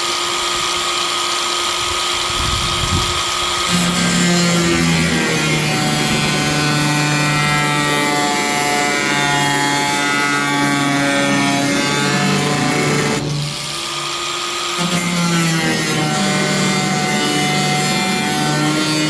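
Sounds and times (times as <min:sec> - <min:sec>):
power tool cutting sheet metal: 0:00.0 - 0:19.0.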